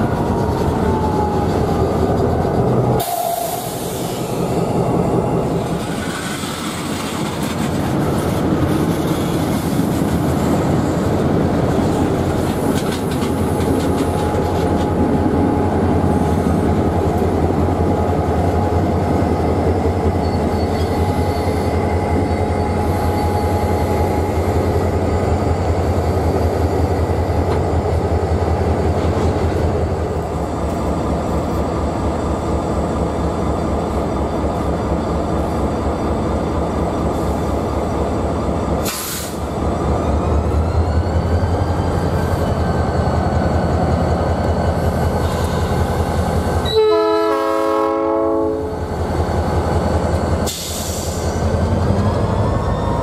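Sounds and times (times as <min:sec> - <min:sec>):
train wheels rumbling and clicking: 0:00.0 - 0:46.8, 0:48.7 - 0:53.0
diesel locomotives passing: 0:00.0 - 0:53.0.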